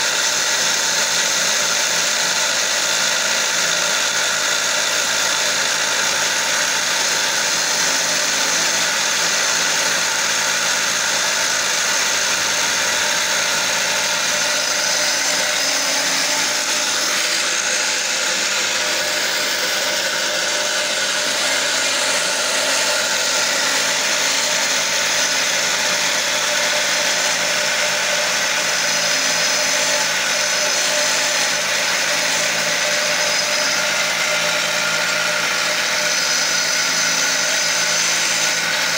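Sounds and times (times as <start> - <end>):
lathe motor humming: 0.0 - 38.9
tool cutting spinning wood: 0.0 - 38.9.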